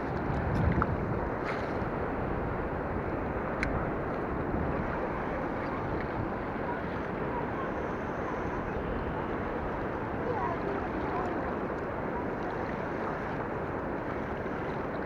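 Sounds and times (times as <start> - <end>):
fast river water rushing: 1.0 - 15.0.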